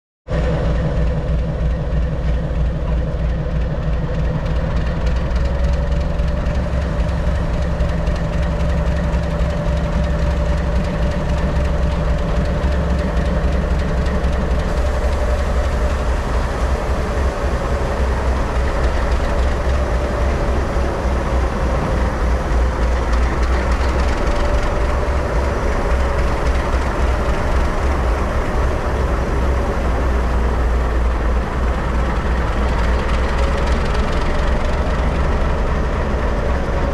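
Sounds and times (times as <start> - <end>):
diesel locomotive rumble: 0.3 - 36.9.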